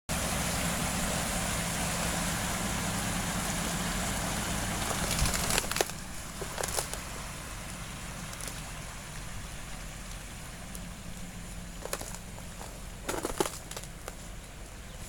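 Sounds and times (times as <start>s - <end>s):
water rushing: 0.1s - 14.8s
truck engine hum: 0.1s - 15.0s.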